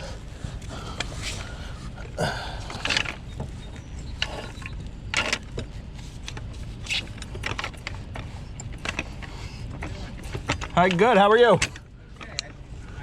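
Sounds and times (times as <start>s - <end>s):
jacking gear scraping and clanking: 0.0s - 13.0s
low steady rumble: 0.0s - 13.0s.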